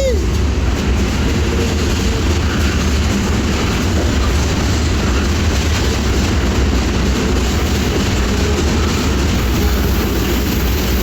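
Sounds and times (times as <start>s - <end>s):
freight train rumbling and rattling: 0.0s - 11.0s.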